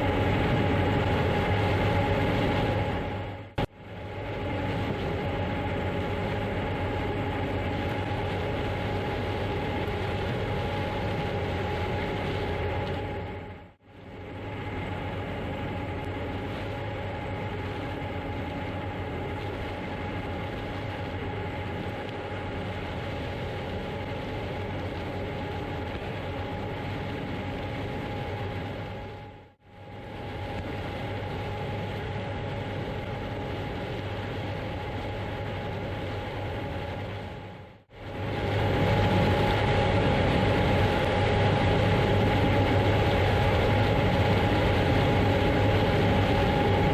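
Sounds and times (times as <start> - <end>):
machinery whine: 0.0 - 46.9.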